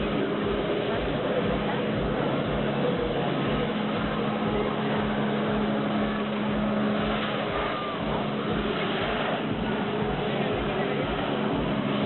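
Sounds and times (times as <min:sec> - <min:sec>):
water jets blasting: 0:00.0 - 0:12.0
watercraft engine droning: 0:00.0 - 0:12.0.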